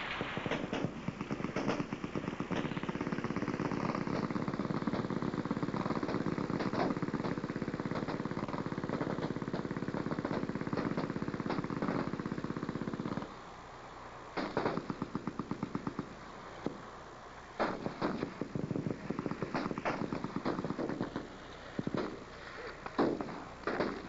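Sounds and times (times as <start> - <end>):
machine guns firing: 0.0 - 13.4, 14.4 - 17.0, 17.6 - 24.0.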